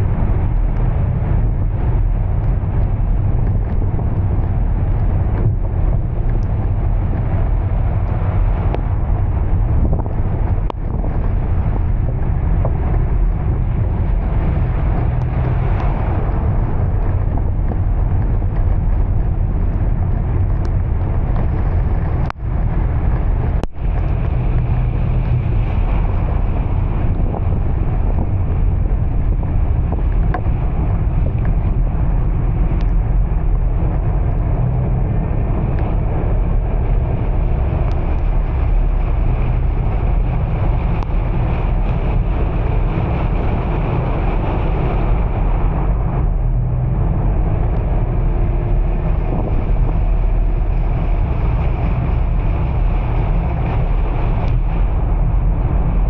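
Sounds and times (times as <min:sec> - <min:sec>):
vehicle rumbling on the move: 0:00.0 - 0:56.0
wind buffeting microphone: 0:00.0 - 0:56.0.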